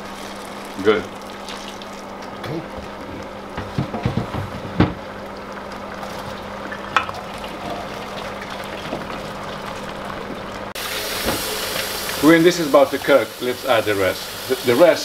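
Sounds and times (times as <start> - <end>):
stew bubbling in a pot: 0.0 - 15.0.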